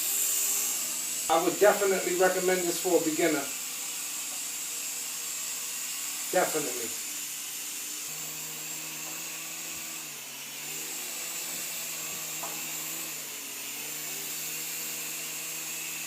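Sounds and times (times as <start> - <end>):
rc helicopter rotors whining: 0.0 - 16.0.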